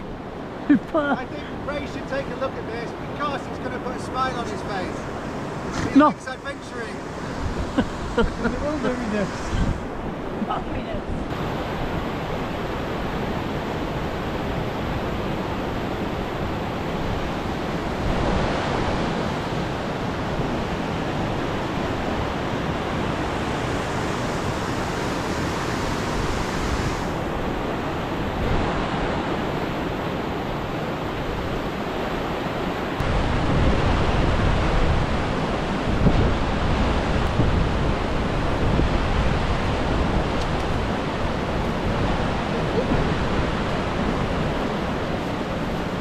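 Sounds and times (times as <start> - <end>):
whitewater roaring over rocks: 0.0 - 46.0
wind rumble on microphone: 4.2 - 46.0.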